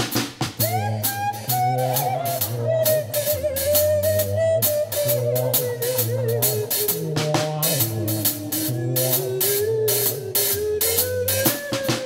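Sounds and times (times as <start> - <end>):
bass line: 0.0 - 12.0
drum kit beat: 0.0 - 12.0
wavering lead melody: 0.6 - 12.0.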